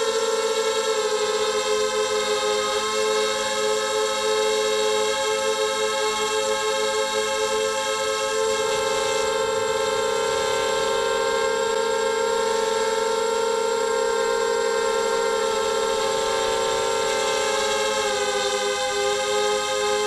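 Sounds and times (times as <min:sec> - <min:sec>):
quadcopter propellers whining: 0:00.0 - 0:20.0.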